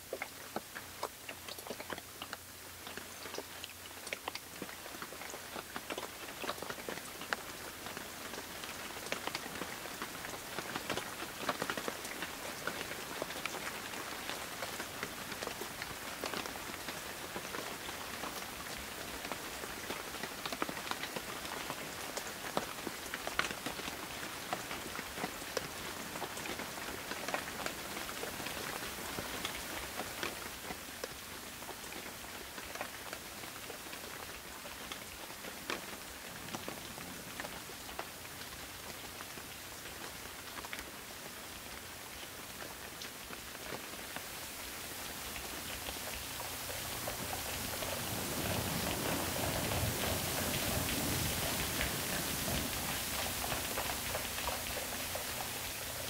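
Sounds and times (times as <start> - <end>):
rain hissing on cobblestones: 0.0 - 56.0
raindrops splashing in puddles: 0.0 - 56.0.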